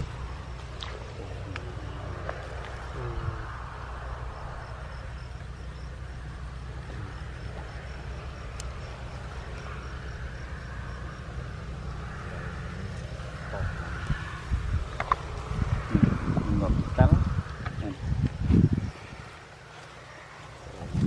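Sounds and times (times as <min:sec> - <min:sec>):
faint insect chirp: 0:00.0 - 0:21.0
low wind rumble: 0:00.0 - 0:21.0.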